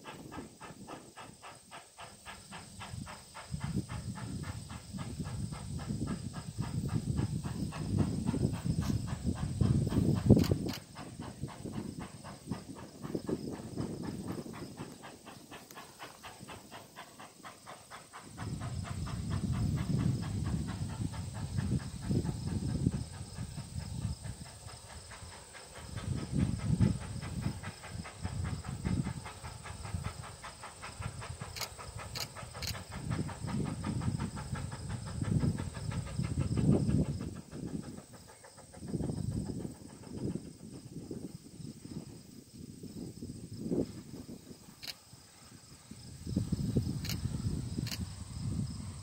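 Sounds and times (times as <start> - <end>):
steam hiss: 0.0 - 49.0
steam locomotive chuffing: 0.0 - 49.0.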